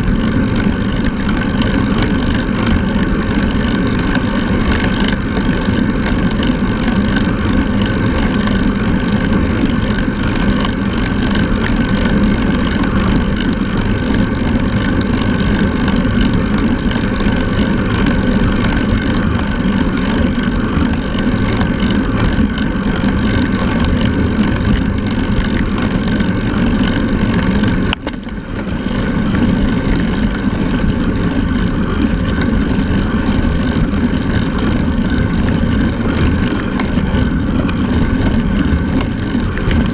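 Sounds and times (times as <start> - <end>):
tyres rolling on asphalt: 0.0 - 39.9
wind rushing over microphone: 0.0 - 39.9.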